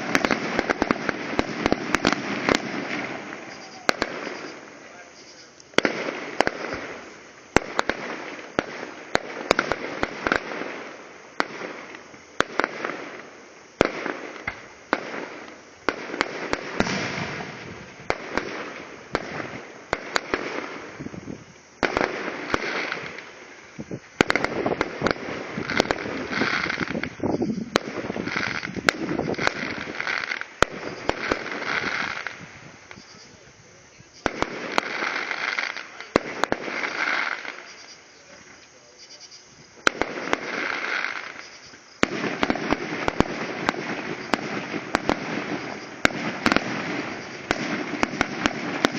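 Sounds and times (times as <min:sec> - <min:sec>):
fireworks bangs: 0:00.0 - 0:48.9
fireworks crackling and hissing: 0:00.0 - 0:48.9.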